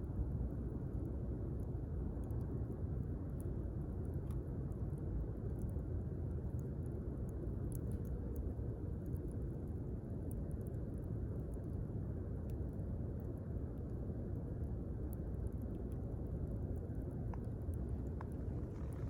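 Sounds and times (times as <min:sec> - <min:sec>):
campfire burning with crackles: 0:00.0 - 0:19.0.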